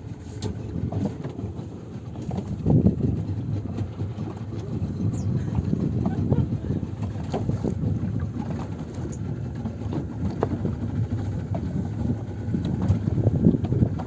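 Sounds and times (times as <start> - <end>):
hull slapping waves: 0.0 - 14.0
motorboat engine rumble: 0.0 - 14.0
wind: 0.0 - 14.0.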